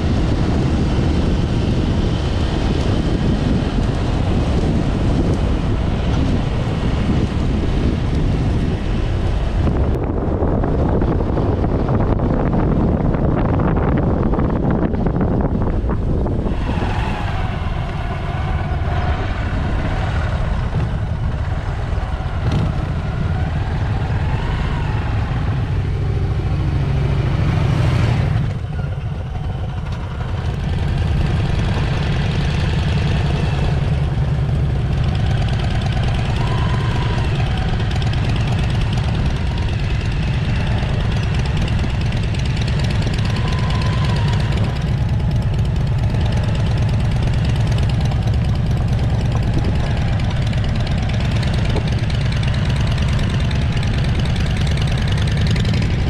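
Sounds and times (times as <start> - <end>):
motorcycle engine running: 0.0 - 16.7, 17.6 - 56.0.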